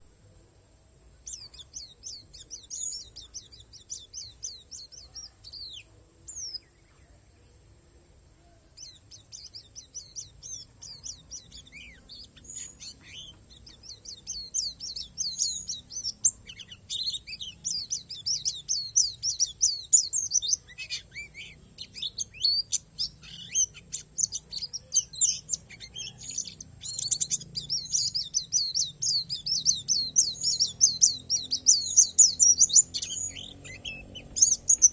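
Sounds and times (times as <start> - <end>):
bird twittering song: 1.2 - 7.7, 8.4 - 34.9.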